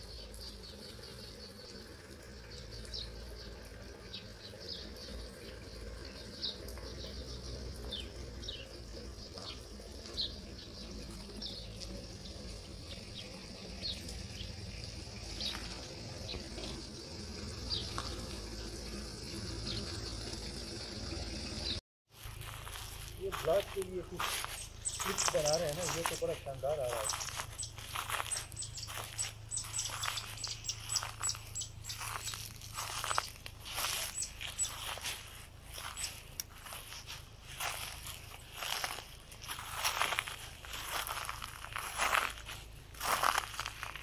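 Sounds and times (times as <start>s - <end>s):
small birds chirping: 0.0s - 20.5s, 21.3s - 44.0s.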